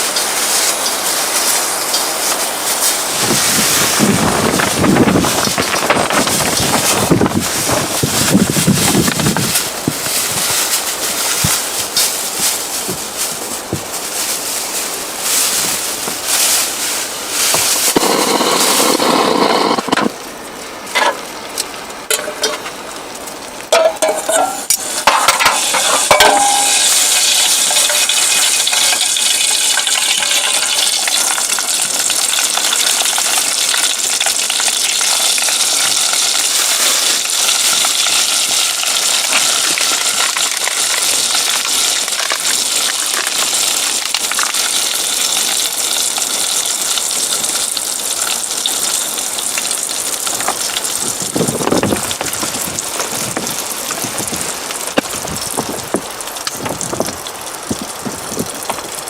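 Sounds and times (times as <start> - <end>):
sizzling hiss: 0.0 - 59.0.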